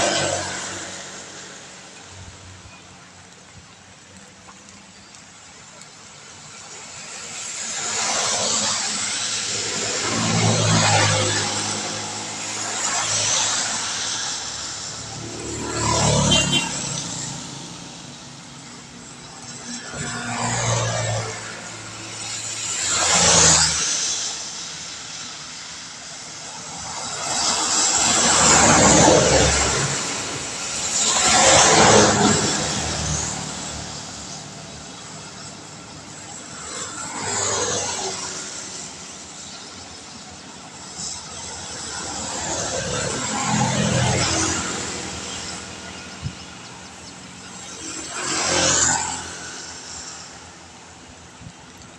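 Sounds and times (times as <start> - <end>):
rain: 0.0 - 51.9
tyres hissing on wet road: 0.0 - 51.9.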